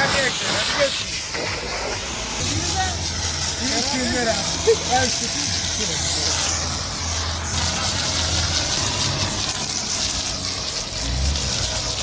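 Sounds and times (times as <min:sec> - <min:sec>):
pressure washer motor humming: 0:00.0 - 0:12.0
water spray hissing: 0:00.0 - 0:12.0.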